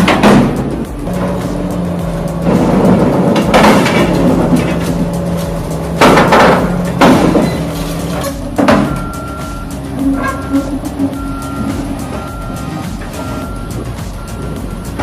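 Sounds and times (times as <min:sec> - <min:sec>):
loud crashes and bangs: 0:00.0 - 0:15.0
low machine hum: 0:00.0 - 0:15.0.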